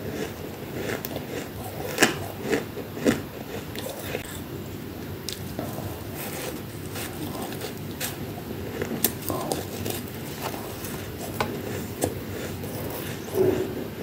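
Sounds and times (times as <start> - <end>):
person chewing frost crunching: 0.0 - 4.5, 5.2 - 14.0.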